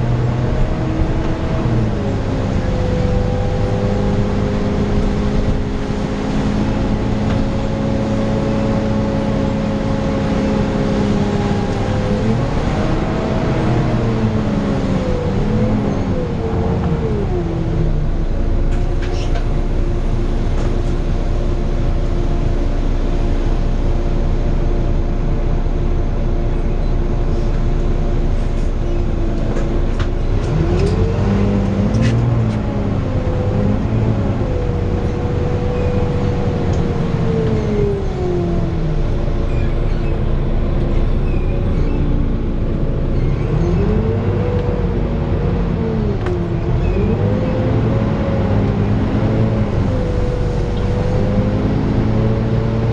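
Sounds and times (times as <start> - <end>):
bus diesel engine: 0.0 - 52.9.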